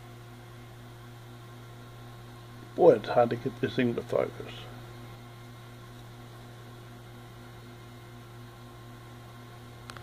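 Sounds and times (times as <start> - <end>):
fan-like hiss: 0.0 - 10.0
low electrical hum: 0.0 - 10.0.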